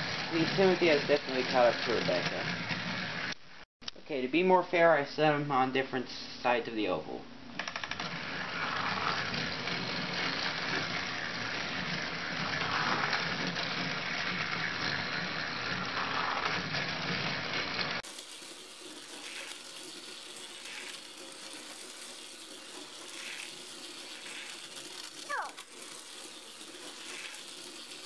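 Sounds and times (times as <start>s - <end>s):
toy train motors whirring: 0.0s - 3.4s, 7.6s - 28.0s
toy train wheel clatter: 0.0s - 3.4s, 7.6s - 28.0s.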